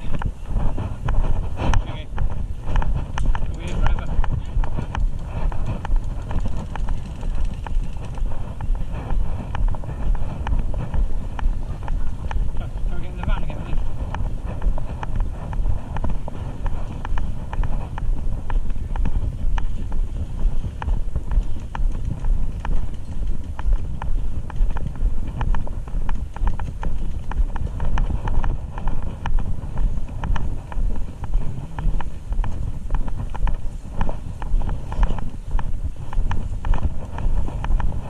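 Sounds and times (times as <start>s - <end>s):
walking footsteps: 0.0s - 38.0s
carried gear clicking: 3.2s - 14.2s, 15.0s - 38.0s.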